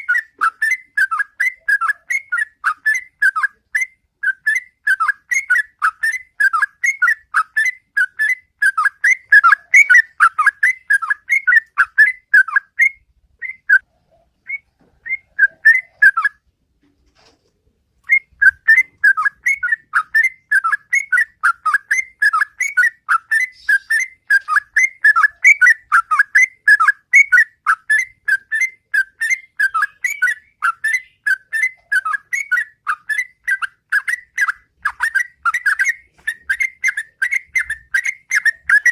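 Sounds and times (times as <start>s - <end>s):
bird singing whistled notes: 0.0s - 16.4s, 18.0s - 38.9s.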